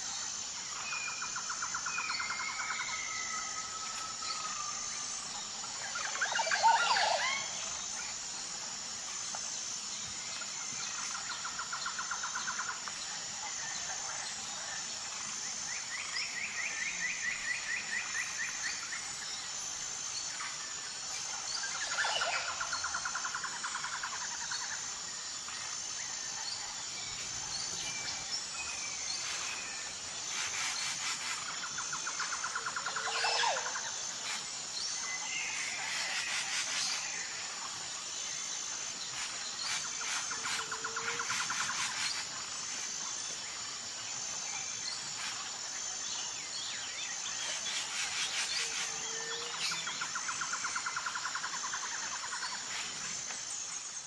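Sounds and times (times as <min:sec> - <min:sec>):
high insect trill: 0:00.0 - 0:54.0.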